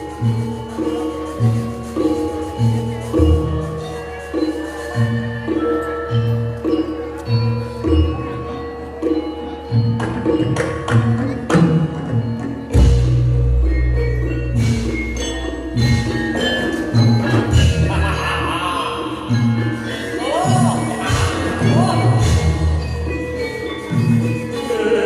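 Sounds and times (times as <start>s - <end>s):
gamelan music: 0.0s - 25.0s.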